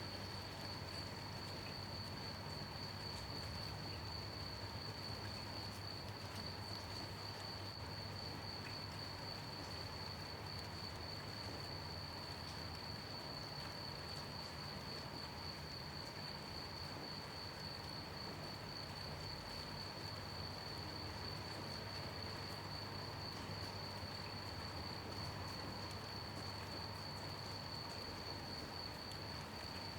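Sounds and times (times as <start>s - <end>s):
crickets chirping: 0.0s - 29.9s
gentle rain: 0.0s - 29.9s.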